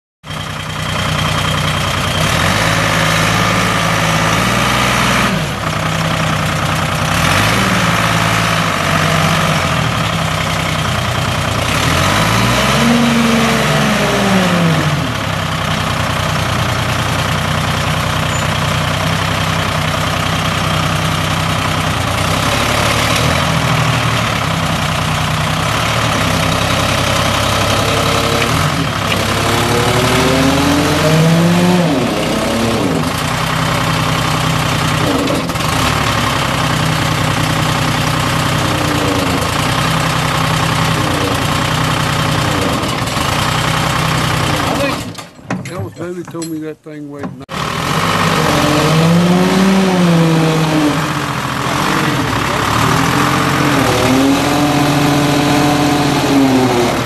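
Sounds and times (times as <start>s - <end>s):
diesel engine revving: 0.3s - 57.0s.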